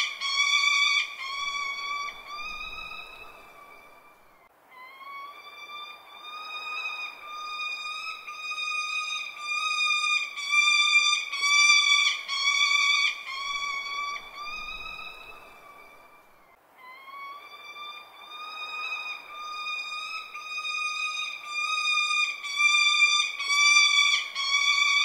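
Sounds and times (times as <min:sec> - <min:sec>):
falcon whining calls: 0:00.0 - 0:25.0.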